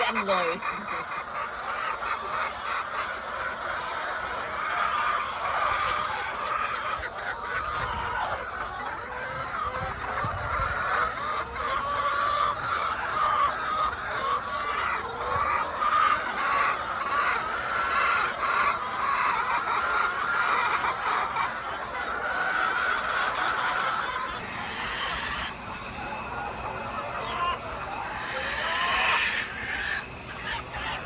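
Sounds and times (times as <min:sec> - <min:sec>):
hens clucking: 0:00.0 - 0:31.0.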